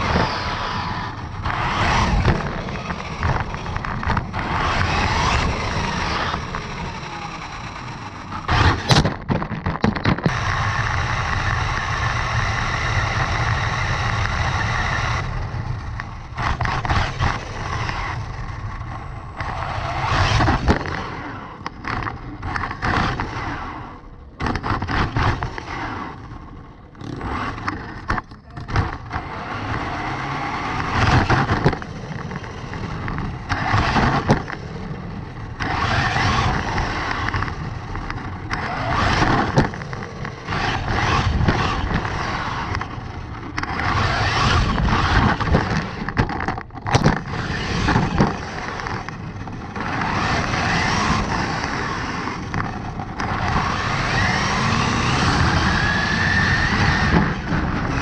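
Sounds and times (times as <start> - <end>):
rc truck motor whine: 0.0 - 9.3, 10.0 - 58.0
tyre noise on asphalt: 0.0 - 58.0.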